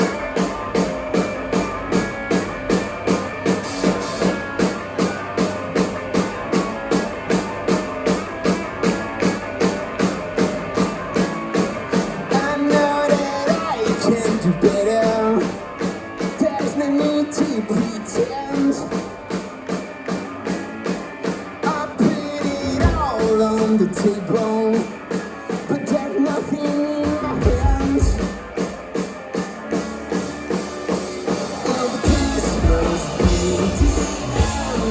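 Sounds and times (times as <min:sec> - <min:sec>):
lead guitar melody: 0:00.0 - 0:34.9
rock band playing: 0:00.0 - 0:34.9.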